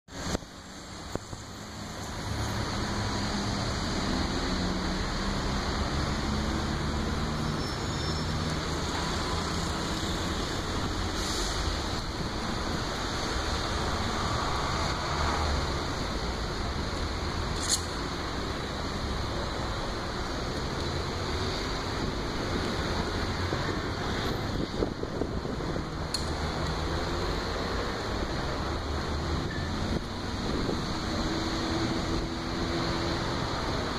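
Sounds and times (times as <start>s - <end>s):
street traffic rumble: 0.0s - 33.9s.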